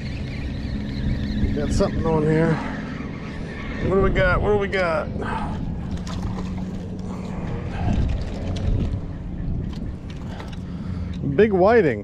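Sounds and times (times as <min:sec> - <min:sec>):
wind buffeting microphone: 0:00.0 - 0:11.3
boat engine low hum: 0:00.0 - 0:12.0.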